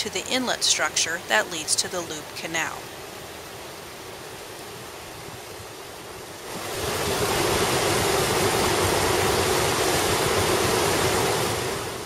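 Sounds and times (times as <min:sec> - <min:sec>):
water rushing over weir: 0:00.0 - 0:12.0.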